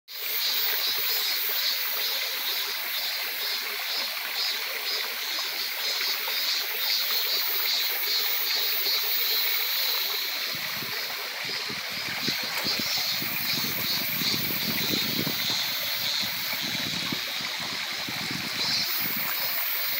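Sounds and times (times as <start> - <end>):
cicadas singing: 0.1 - 19.9
stream trickling over rocks: 0.1 - 19.9.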